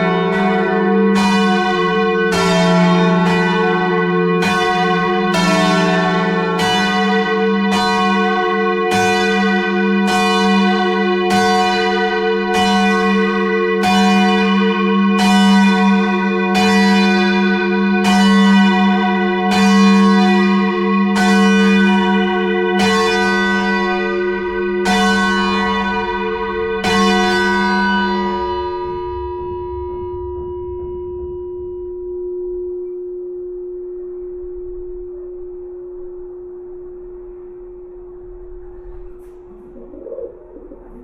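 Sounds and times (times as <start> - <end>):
church bells striking: 0.0 - 39.5
low bell hum: 0.0 - 41.0.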